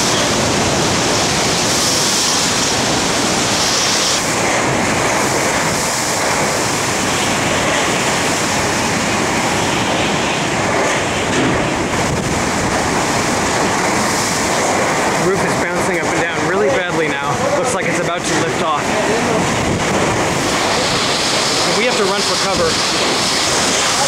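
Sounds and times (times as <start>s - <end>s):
loud rushing hurricane wind: 0.0s - 24.0s
wind buffeting microphone: 0.0s - 24.0s.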